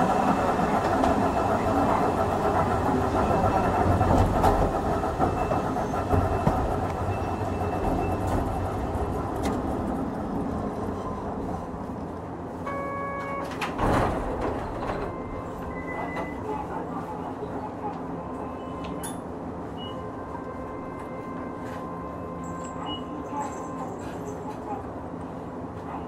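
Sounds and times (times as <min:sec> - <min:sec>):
tram rumbling on rails: 0:00.0 - 0:26.0.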